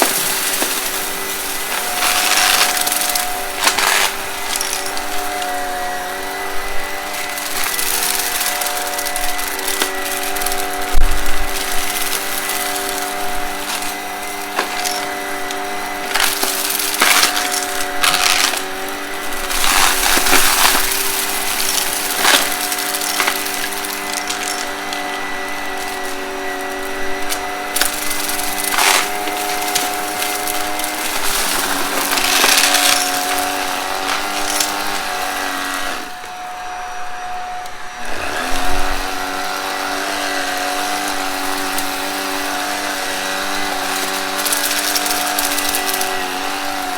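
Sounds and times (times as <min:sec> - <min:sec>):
debris crackling in vacuum: 0:00.0 - 0:36.8, 0:37.4 - 0:46.9
vacuum cleaner motor whine: 0:00.0 - 0:46.9.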